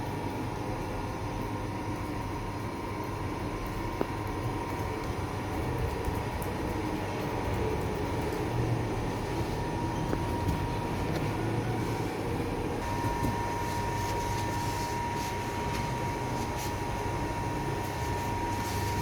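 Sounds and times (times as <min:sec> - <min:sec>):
thin constant whine: 0:00.0 - 0:19.0
machine rumble: 0:00.1 - 0:19.0.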